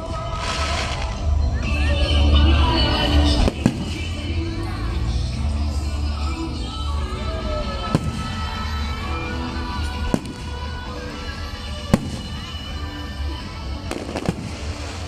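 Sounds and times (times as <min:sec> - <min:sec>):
music playing: 0:00.0 - 0:15.0.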